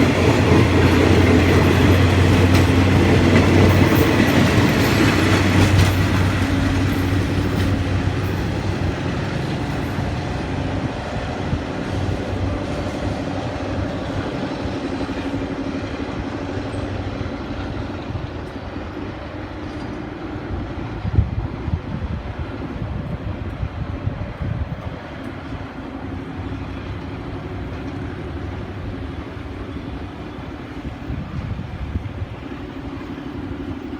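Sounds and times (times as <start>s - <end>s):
diesel train engine drone: 0.0s - 33.9s
train cars rumbling on rails: 0.0s - 33.9s.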